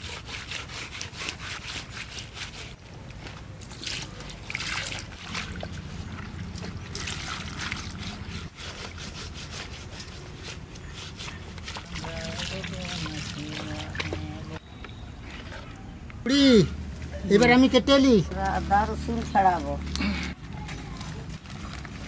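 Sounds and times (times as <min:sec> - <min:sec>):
wet rubbing and scraping: 0:00.0 - 0:16.0, 0:18.2 - 0:22.0.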